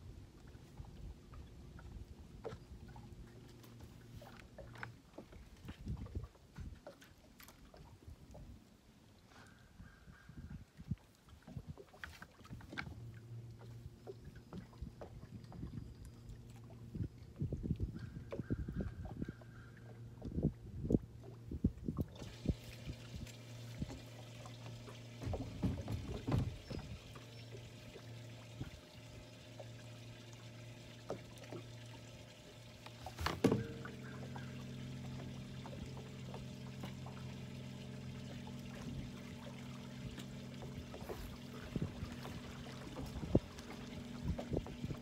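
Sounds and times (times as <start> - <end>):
water lapping against hull: 0.0 - 45.0.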